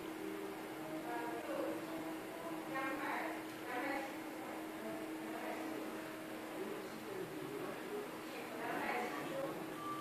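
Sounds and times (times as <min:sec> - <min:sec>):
faint indistinct voices: 0:00.0 - 0:10.0
steady low hum: 0:00.0 - 0:10.0.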